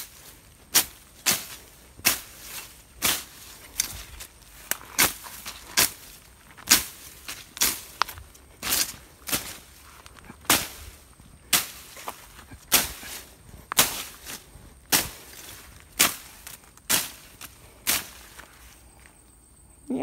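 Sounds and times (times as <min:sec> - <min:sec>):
blade swishing through grass: 0:00.0 - 0:18.8.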